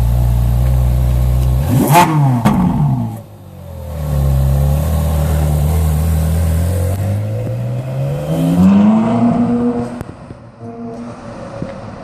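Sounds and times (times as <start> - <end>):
car engine pulling away: 0.0 - 10.4.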